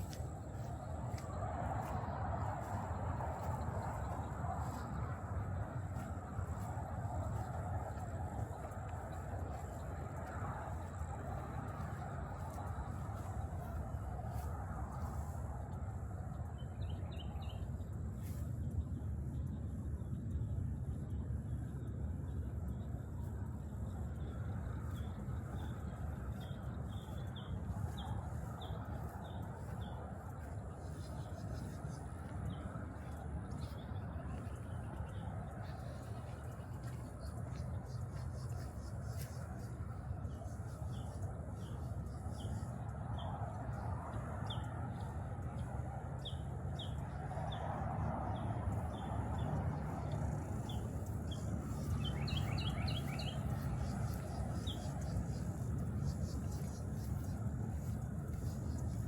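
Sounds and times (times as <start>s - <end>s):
low background noise: 0.0s - 59.0s
low rumble: 0.0s - 59.0s.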